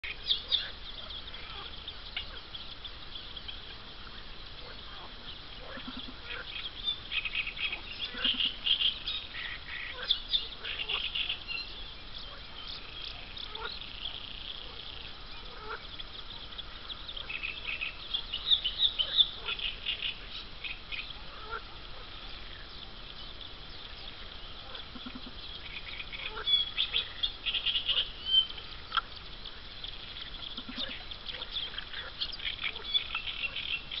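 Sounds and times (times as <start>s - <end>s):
ducklings peeping: 0.0s - 34.0s.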